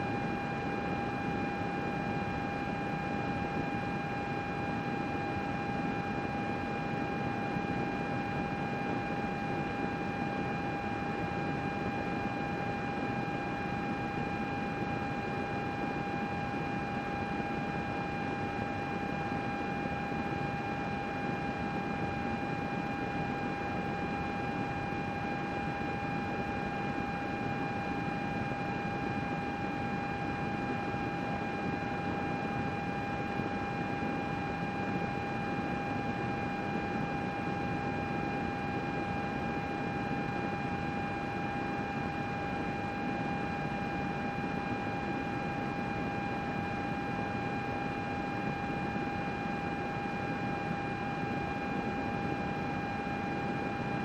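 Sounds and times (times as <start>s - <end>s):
high-pitched fan whine: 0.0s - 54.0s.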